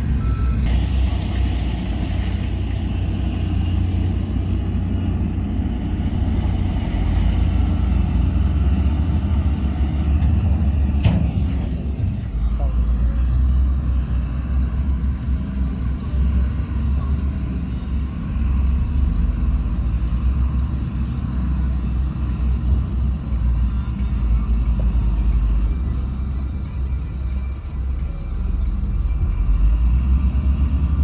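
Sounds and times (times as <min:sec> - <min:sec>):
heavy diesel machinery rumbling: 0:00.0 - 0:31.0.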